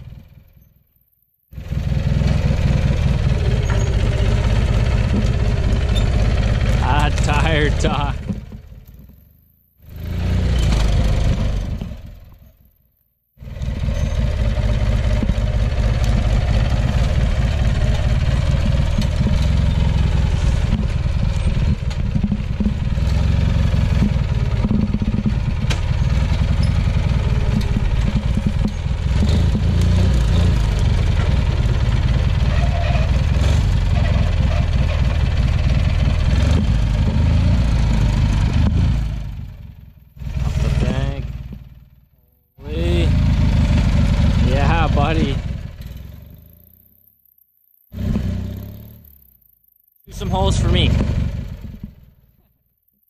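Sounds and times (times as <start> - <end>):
lawn tractor engine running: 0.0 - 52.7.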